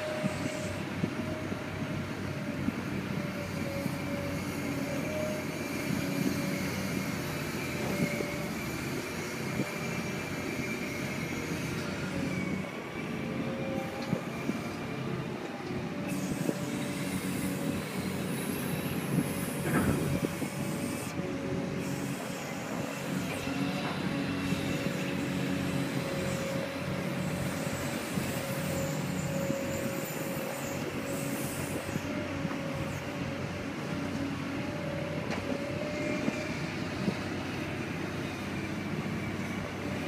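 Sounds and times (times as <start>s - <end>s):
excavator diesel engine rumbling: 0.0s - 40.0s
hydraulic whine: 0.0s - 40.0s.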